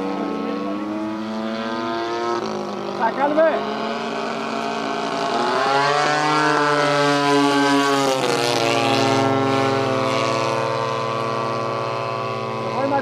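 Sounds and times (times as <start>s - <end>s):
model plane engine buzz: 0.0s - 13.0s.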